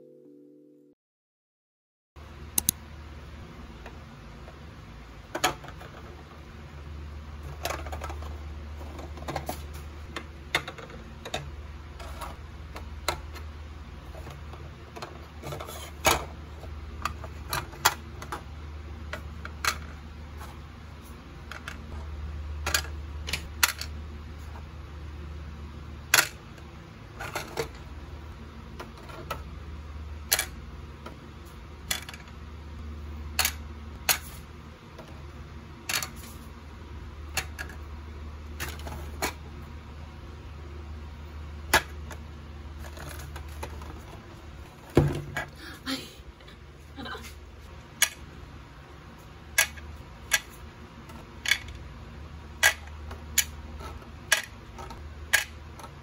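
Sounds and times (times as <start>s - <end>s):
low steady hum: 2.2s - 56.0s.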